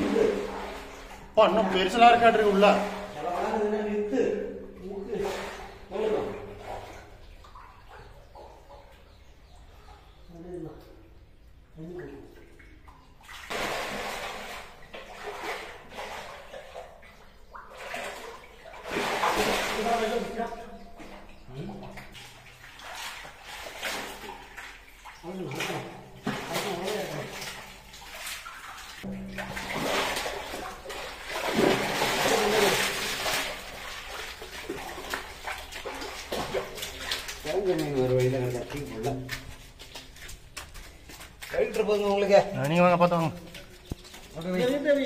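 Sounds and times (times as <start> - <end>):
water splashing and sloshing: 0.0 - 45.0.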